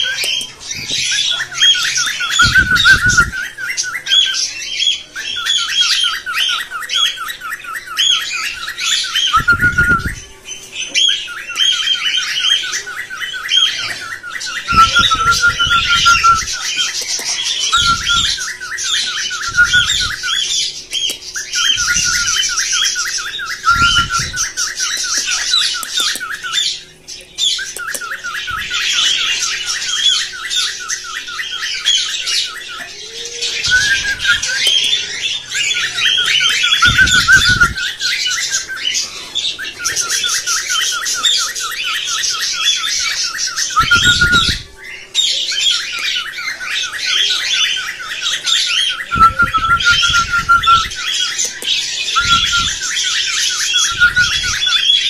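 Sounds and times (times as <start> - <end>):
pet birds chirping and squawking: 0.0 - 55.0.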